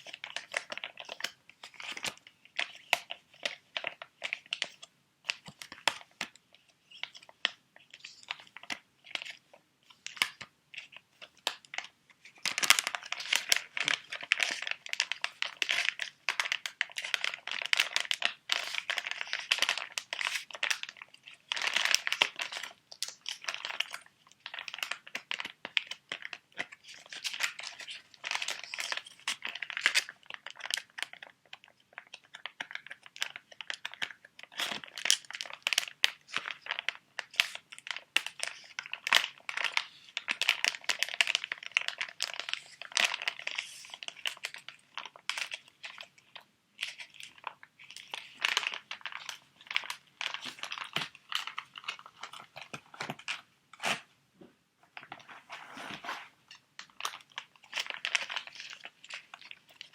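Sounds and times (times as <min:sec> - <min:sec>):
plastic packets crinkling: 0:00.0 - 0:54.0, 0:54.9 - 0:59.9.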